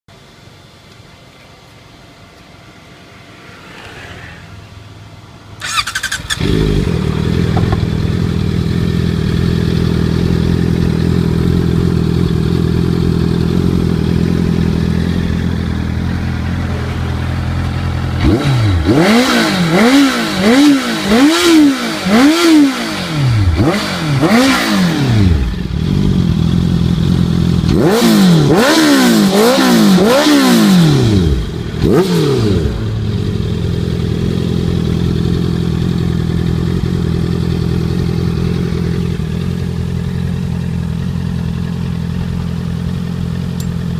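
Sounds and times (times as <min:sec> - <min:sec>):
motorcycle engine idling and revving: 0:00.1 - 0:43.9.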